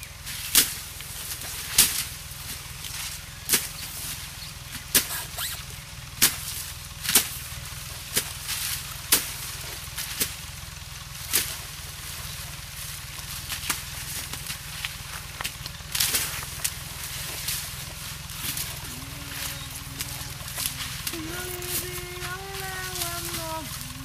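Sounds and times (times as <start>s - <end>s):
steady low hum: 0.0s - 24.0s
cane knives chopping stalks: 0.2s - 10.5s, 11.1s - 24.0s.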